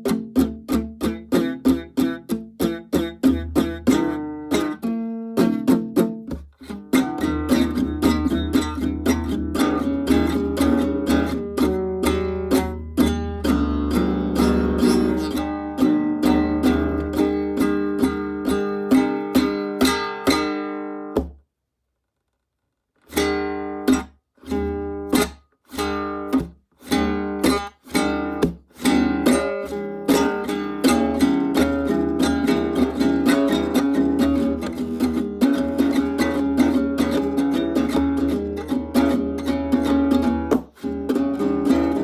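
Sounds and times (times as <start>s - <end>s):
acoustic guitar strumming: 0.0s - 21.4s, 23.1s - 42.0s.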